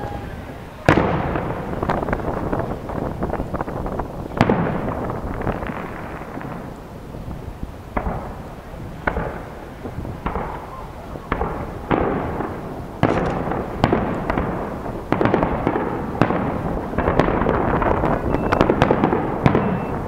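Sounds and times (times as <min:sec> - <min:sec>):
firework shells bursting: 0:00.0 - 0:20.0
fireworks rumble and crackle: 0:00.0 - 0:20.0.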